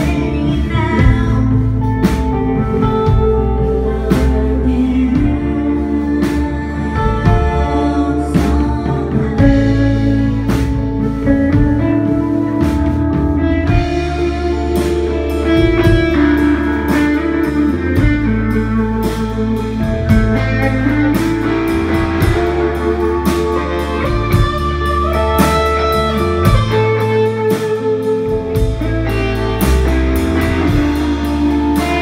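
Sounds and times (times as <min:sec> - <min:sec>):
drum kit steady beat: 0:00.0 - 0:32.0
electric guitars ringing: 0:00.0 - 0:32.0
rock band playing: 0:00.0 - 0:32.0.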